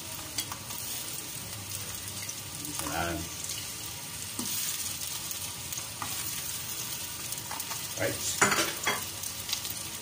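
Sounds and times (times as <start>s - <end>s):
crabs sizzling in hot oil: 0.0s - 10.0s.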